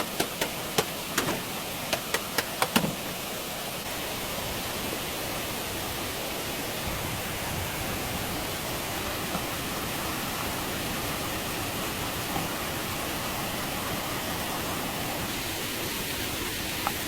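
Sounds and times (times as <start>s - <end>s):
rushing water hiss: 0.0s - 17.0s.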